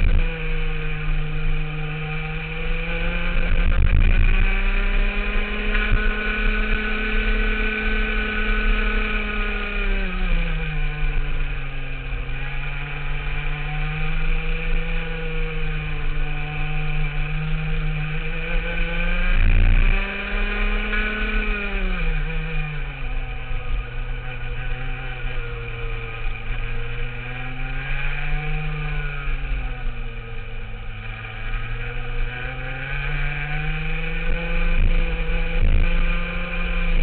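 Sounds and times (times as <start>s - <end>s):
two-stroke kart engine revving: 0.0s - 37.0s.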